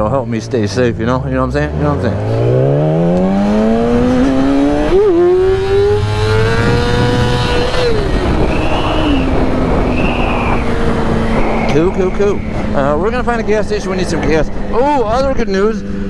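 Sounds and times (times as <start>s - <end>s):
motorcycle engine revving: 1.6s - 16.0s
wind rush on microphone: 2.3s - 16.0s.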